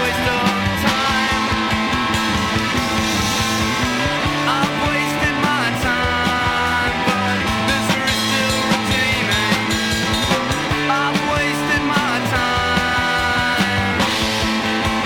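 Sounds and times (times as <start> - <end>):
person singing: 0.0 - 1.7, 3.8 - 14.4
distorted electric guitars: 0.0 - 15.0
drum beat: 0.0 - 15.0.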